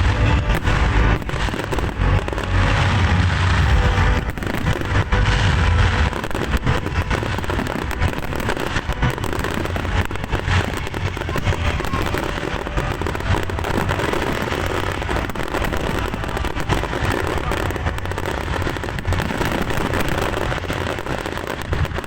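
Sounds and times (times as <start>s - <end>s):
fireworks cracks and bangs: 0.0s - 22.0s
steady low rumble: 0.0s - 22.0s.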